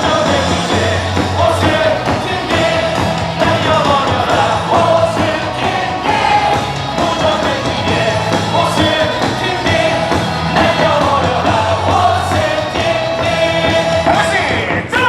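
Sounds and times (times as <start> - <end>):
crowd singing along: 0.0 - 14.9
cheer song over stadium speakers: 0.0 - 15.0.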